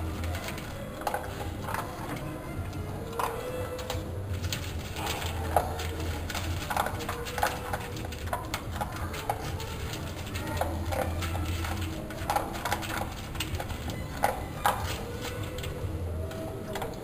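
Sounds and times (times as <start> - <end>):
dog rummaging among plastic bottles: 0.0 - 17.0.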